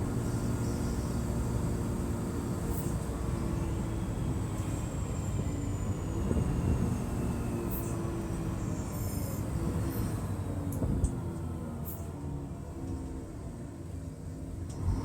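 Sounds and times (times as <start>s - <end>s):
diesel bus engine droning: 0.0s - 15.0s.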